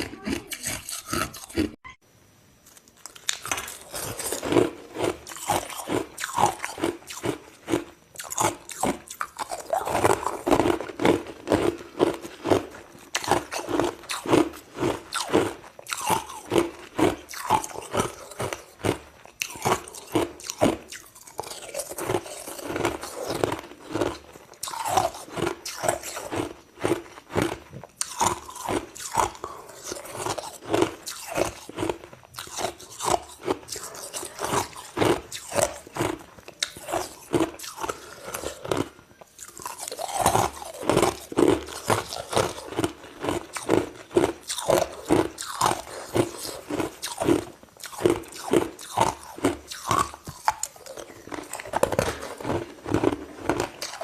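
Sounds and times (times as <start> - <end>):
chewing crushed ice: 0.0 - 1.8, 2.6 - 54.0.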